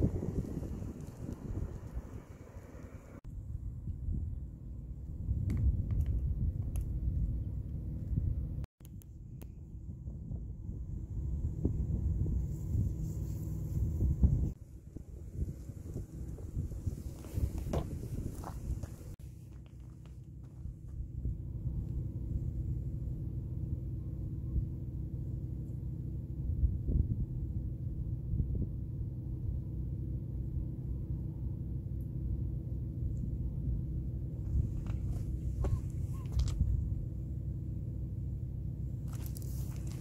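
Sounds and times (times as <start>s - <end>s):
low outdoor rumble: 0.0s - 40.0s.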